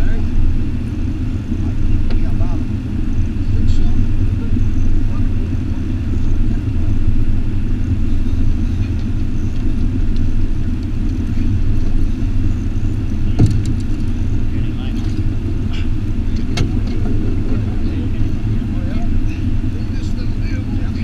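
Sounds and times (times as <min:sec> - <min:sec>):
outboard motor idling: 0:00.0 - 0:21.0.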